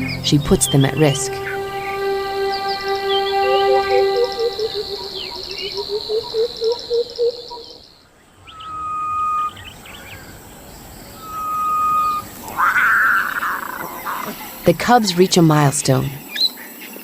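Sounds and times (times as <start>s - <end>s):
long whistled bird note: 0.0s - 14.6s
low hooting bird notes: 0.0s - 16.2s
high insect buzz: 0.1s - 16.4s.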